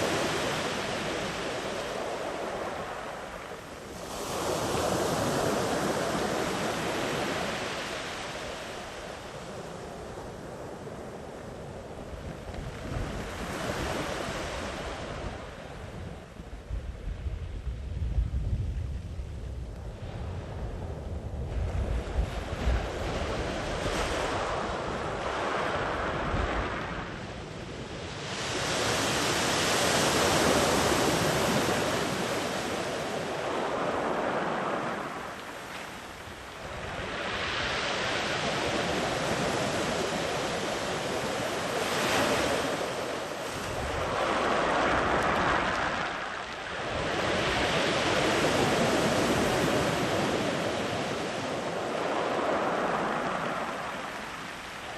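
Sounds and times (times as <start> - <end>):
sea waves washing up beach: 0.0 - 16.3, 21.6 - 54.9
wind buffeting microphone: 0.0 - 54.9.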